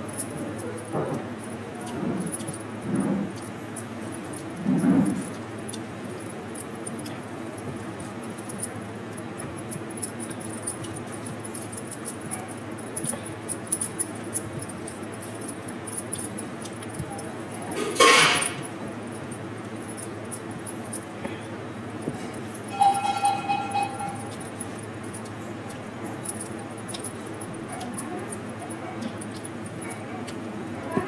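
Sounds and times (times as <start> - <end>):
eating clicks and clinks: 0.0 - 31.0.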